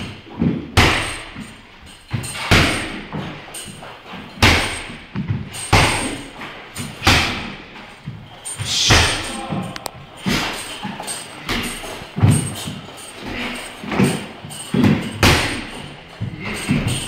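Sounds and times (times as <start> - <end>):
heavy thuds on punching bag: 0.0 - 17.0.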